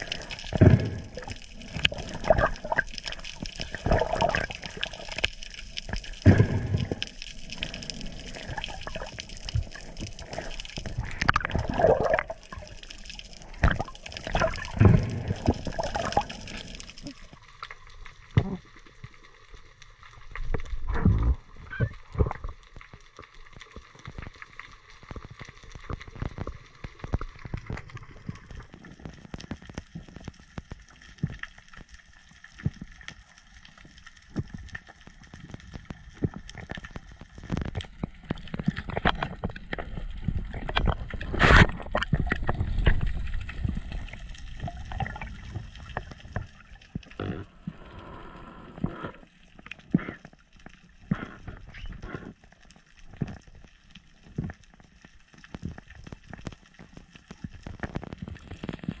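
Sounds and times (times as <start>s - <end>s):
underwater rushing water: 0.0s - 23.0s, 24.0s - 59.0s
small clicks and crackles: 0.0s - 59.0s.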